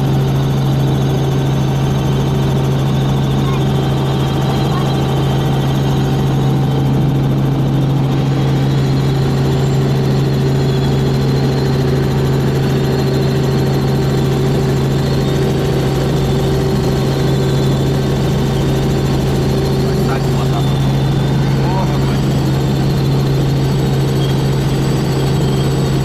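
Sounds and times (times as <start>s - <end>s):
helicopter turbine and rotor drone: 0.0s - 26.0s.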